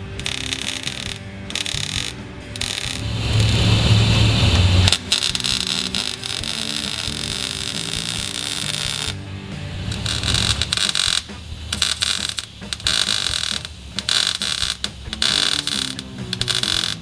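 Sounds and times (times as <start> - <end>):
background music: 0.0 - 17.0
welder arc crackling: 0.0 - 17.0.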